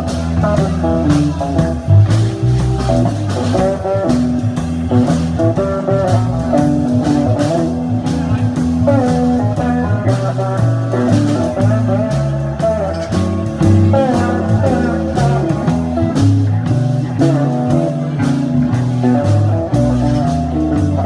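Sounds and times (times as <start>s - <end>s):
drums keeping time: 0.0s - 21.0s
electric guitars: 0.0s - 21.0s
guitar lead with bent notes: 0.0s - 21.0s
steady low bass line: 0.0s - 21.0s.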